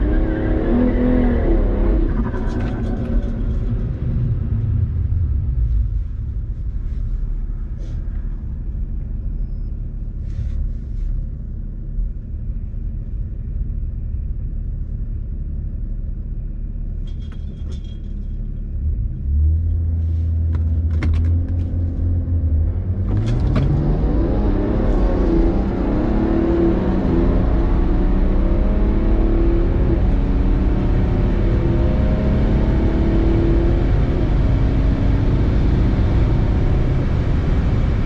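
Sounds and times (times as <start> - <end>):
diesel car engine idling and revving: 0.0 - 38.0.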